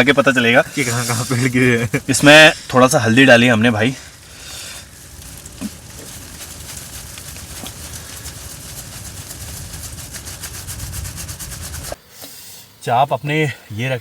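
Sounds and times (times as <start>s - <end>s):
rain pattering on tent fabric: 0.0s - 12.0s
wind buffeting a tent: 0.0s - 12.0s.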